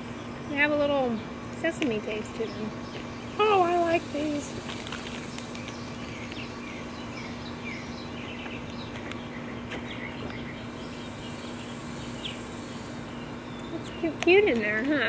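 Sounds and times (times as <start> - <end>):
steady low hum: 0.0 - 15.0
bird chirps: 2.2 - 14.4.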